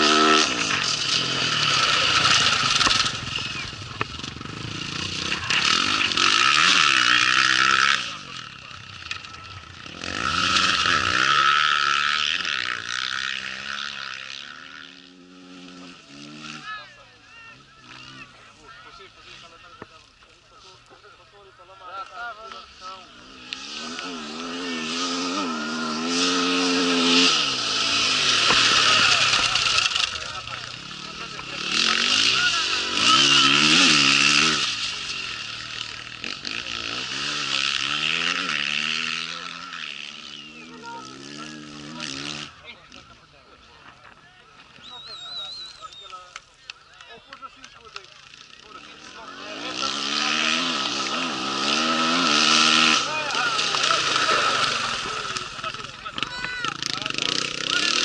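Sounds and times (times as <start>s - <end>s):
motorcycle engine passing: 0.0s - 19.6s, 21.7s - 43.3s, 47.4s - 58.0s.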